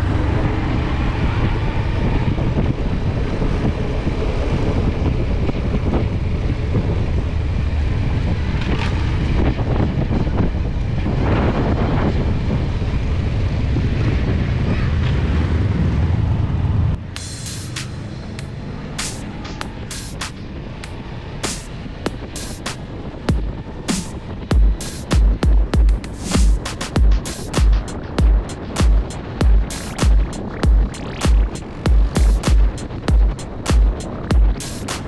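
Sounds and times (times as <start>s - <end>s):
motorcycle engine drone: 0.0s - 35.0s
wind noise on microphone: 0.0s - 35.0s.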